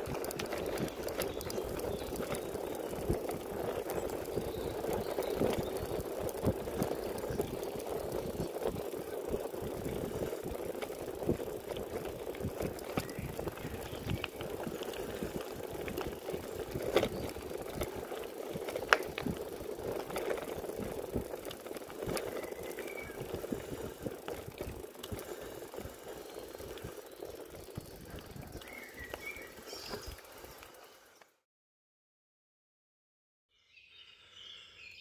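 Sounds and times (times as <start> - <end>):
bike rattling: 0.0 - 31.2
bike tyres on gravel: 0.0 - 31.3.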